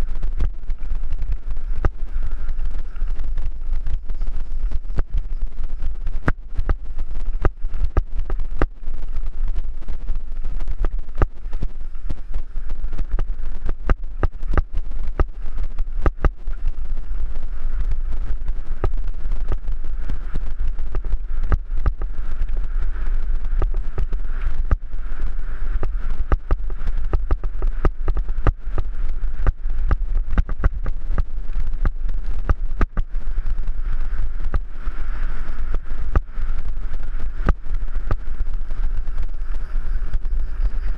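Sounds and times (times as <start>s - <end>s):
bike tyres on gravel: 0.0s - 40.9s
wind buffeting microphone: 0.0s - 40.9s.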